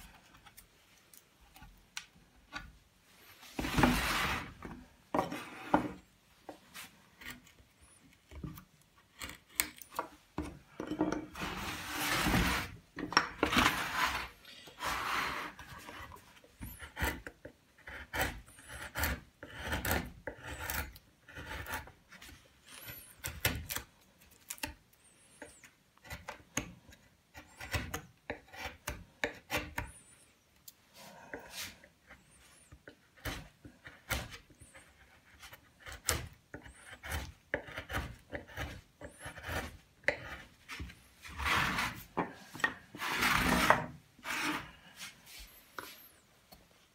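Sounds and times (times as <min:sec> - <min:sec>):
chisel scraping wood: 0:03.6 - 0:06.1, 0:06.7 - 0:23.8, 0:24.4 - 0:30.2, 0:31.3 - 0:45.1.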